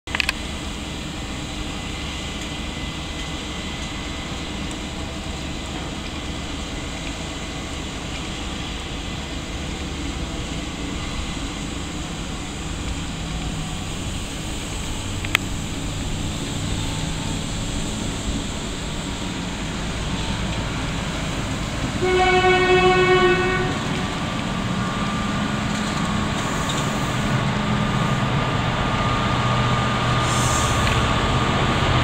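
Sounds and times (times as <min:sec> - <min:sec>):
diesel locomotive engine drone: 0:00.0 - 0:32.0
thin steady whine: 0:00.1 - 0:32.0.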